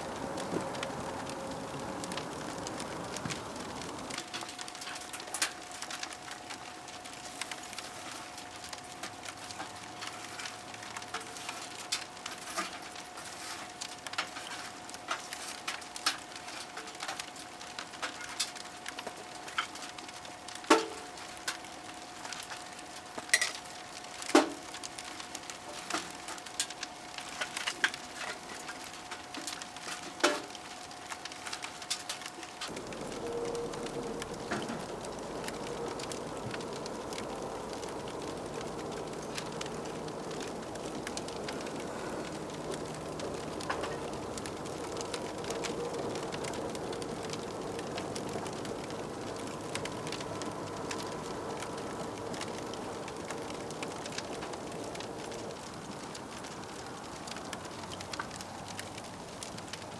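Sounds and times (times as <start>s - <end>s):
wood crackling in a stove: 0.0s - 59.9s.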